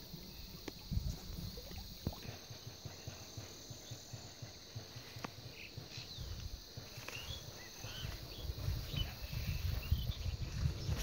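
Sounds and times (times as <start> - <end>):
low rumble on microphone: 0.0 - 4.6, 5.6 - 11.0
high insect hum: 0.0 - 11.0
small birds chirping: 0.0 - 11.0.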